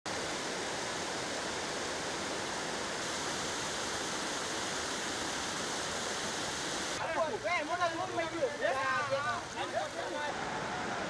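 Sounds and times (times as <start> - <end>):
floodwater rushing: 0.2 - 11.0.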